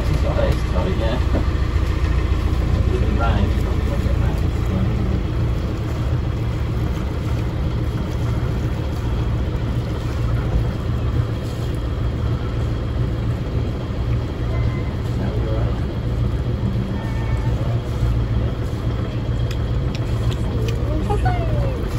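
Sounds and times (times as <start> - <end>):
boat engine humming: 0.0 - 21.9.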